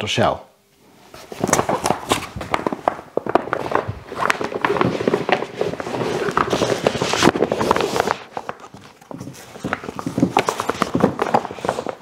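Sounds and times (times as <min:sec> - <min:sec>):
dry bag crinkling and rustling: 0:01.2 - 0:12.0.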